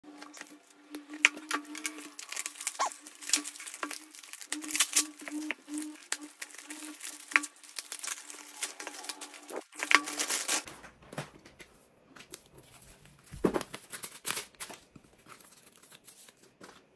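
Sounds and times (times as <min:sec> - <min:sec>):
plastic wrapping crinkling and tearing: 0:00.1 - 0:11.2, 0:12.2 - 0:16.9.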